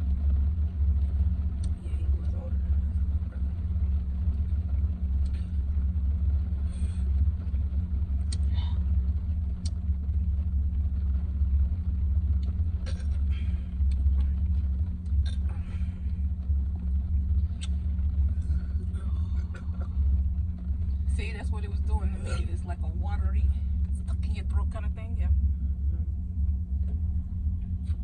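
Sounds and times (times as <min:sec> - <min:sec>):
constant hum: 0:00.0 - 0:28.0
low rumble: 0:00.0 - 0:28.0.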